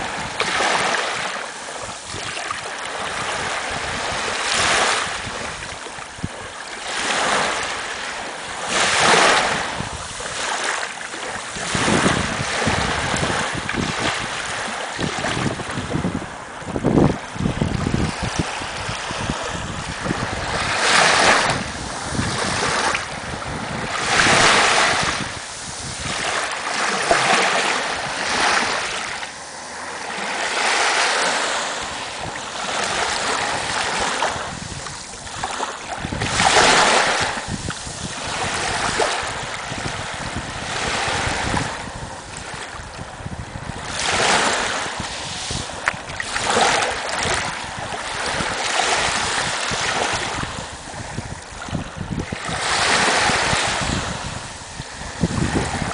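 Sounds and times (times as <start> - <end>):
small waves breaking: 0.0 - 55.9.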